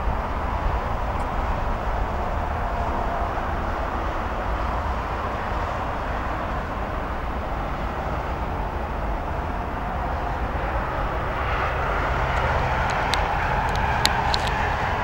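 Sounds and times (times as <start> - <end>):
distant engine drone: 0.0 - 15.0
low rumble: 0.0 - 15.0.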